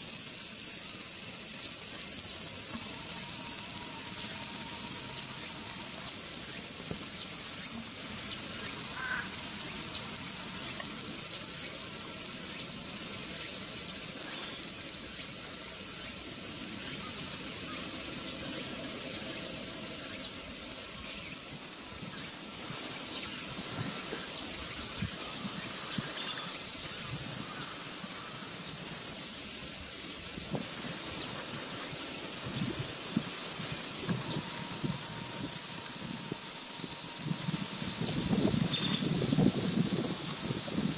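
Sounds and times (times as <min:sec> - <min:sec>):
insects shrilling: 0:00.0 - 0:40.9.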